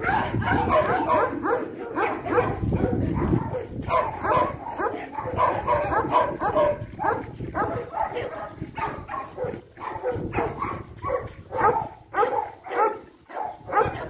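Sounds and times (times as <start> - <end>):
dogs yipping and barking: 0.0 - 14.0.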